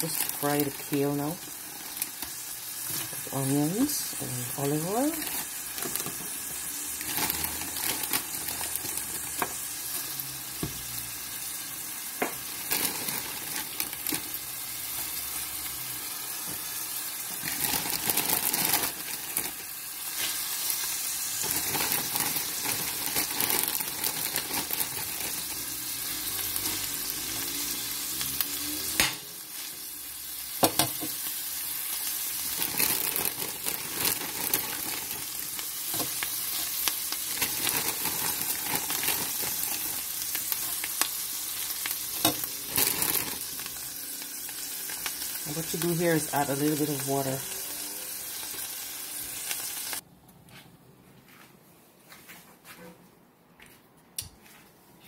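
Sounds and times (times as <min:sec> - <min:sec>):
vegetables frying in oil: 0:00.0 - 0:50.0.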